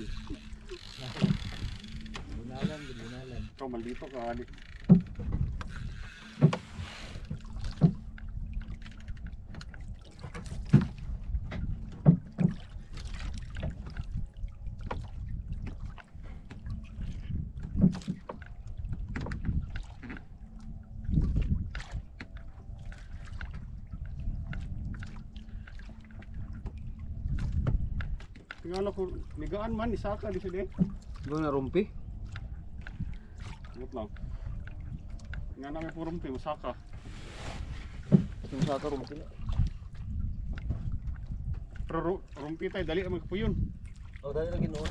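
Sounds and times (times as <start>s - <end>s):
water slapping boat hull: 0.0s - 44.9s
wind on microphone: 0.0s - 44.9s.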